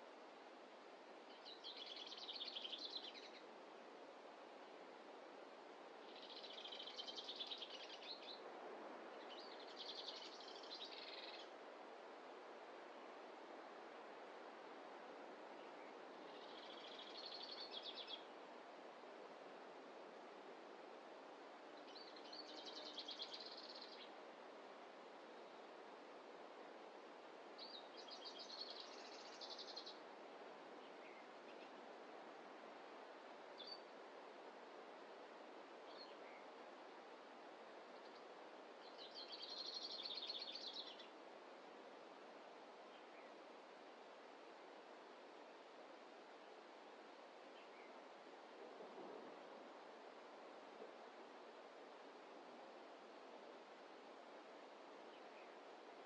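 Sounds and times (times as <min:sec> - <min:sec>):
faint rushing background: 0:00.0 - 0:56.0
faint steady hiss: 0:00.0 - 0:56.0.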